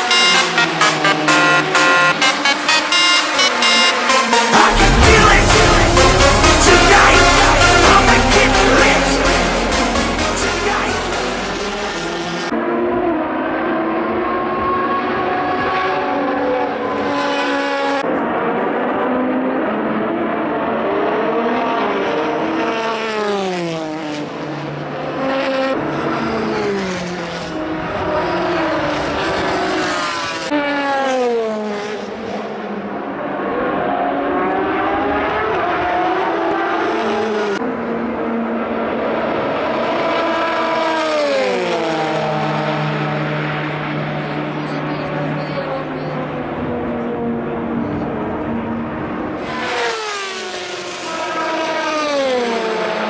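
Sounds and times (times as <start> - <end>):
race cars passing: 0.0 - 53.0.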